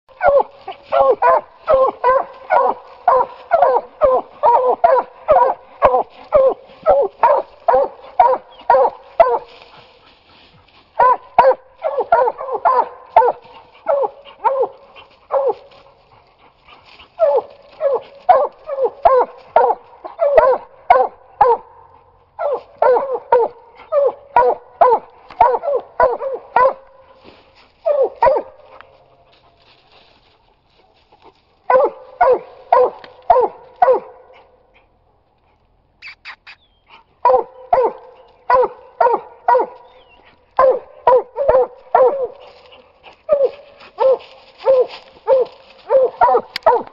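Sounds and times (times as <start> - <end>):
hounds barking: 0.1 - 29.6, 30.8 - 35.0, 36.8 - 46.9.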